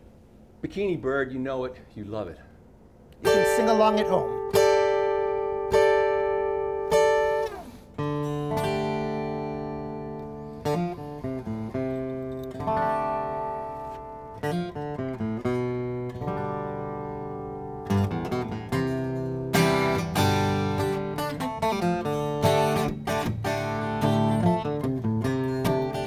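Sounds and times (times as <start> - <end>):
acoustic guitar strumming: 3.2 - 26.0.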